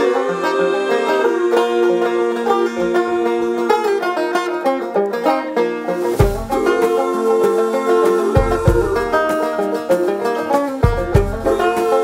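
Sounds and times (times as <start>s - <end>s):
plucked-string music: 0.0s - 12.0s.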